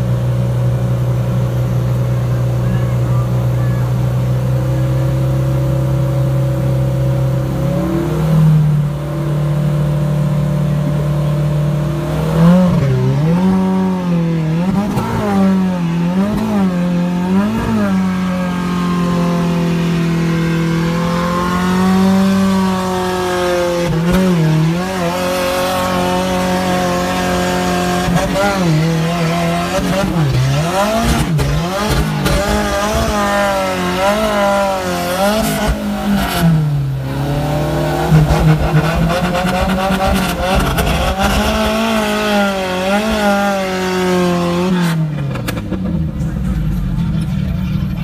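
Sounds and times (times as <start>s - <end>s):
pickup engine revving under load: 0.0s - 48.0s.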